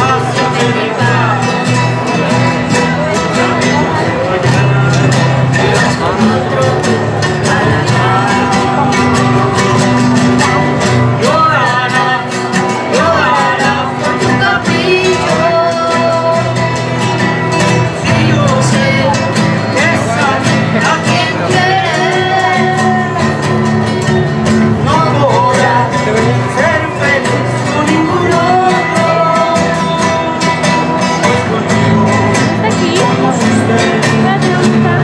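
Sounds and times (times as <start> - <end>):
live band playing: 0.0 - 35.0
person singing: 0.0 - 35.0.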